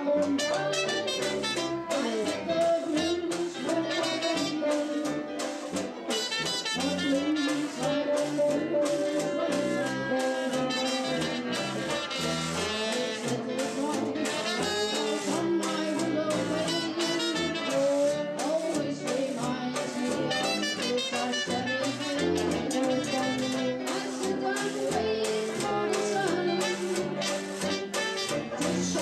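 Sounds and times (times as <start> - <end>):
jazz band playing blues tune: 0.0 - 29.0.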